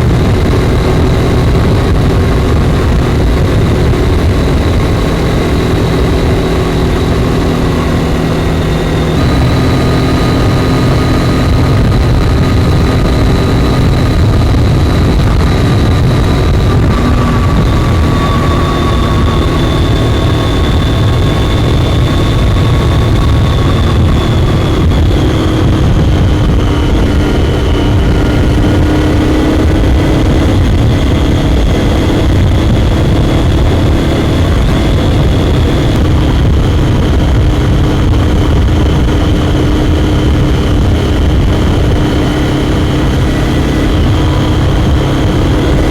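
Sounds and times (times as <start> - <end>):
low rumble: 0.0 - 45.9
motorcycle engine cruising: 0.0 - 45.9.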